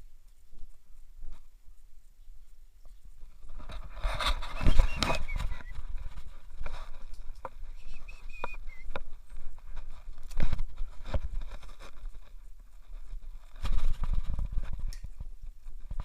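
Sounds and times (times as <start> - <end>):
dogs scuffling: 2.4 - 16.0.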